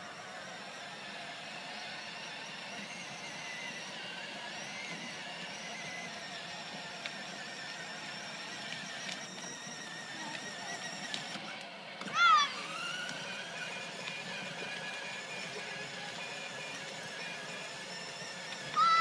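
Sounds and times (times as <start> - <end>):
toy car electric motors whining: 0.0 - 19.0.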